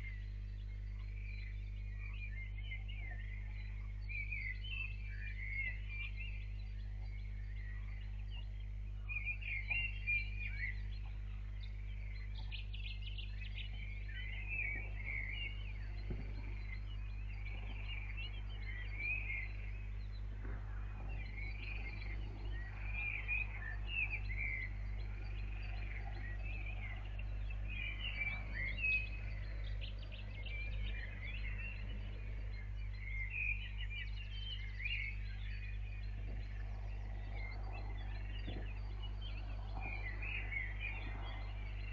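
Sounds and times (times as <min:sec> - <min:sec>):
low electrical hum: 0:00.0 - 0:41.9
small birds chirping and singing: 0:00.0 - 0:41.9.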